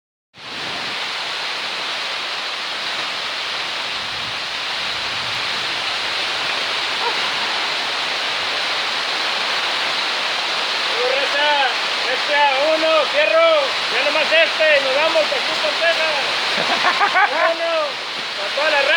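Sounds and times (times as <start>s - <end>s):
heavy rain pouring: 0.4s - 18.9s.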